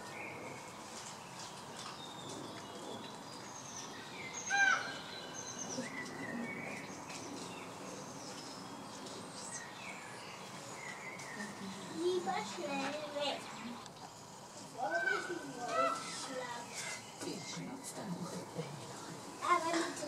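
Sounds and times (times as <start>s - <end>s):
birds chirping and calling: 0.0s - 20.0s
outdoor hush: 0.0s - 20.0s.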